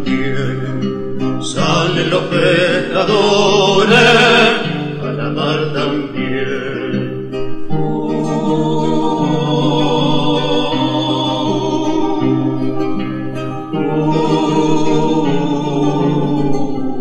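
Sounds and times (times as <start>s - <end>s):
man singing: 0.0s - 13.0s, 13.7s - 17.0s
guitar accompaniment: 0.0s - 17.0s.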